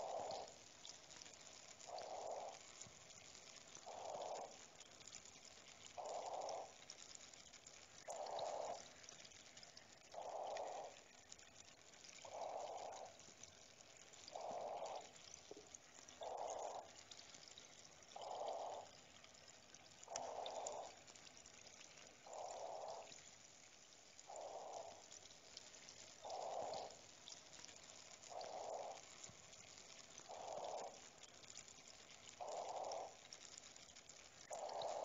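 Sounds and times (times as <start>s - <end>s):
water dripping: 0.0s - 35.0s
water trickling: 0.0s - 35.0s.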